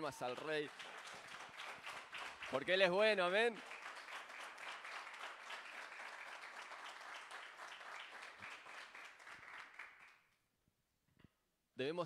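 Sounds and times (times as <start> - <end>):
congregation applauding: 0.0 - 10.4.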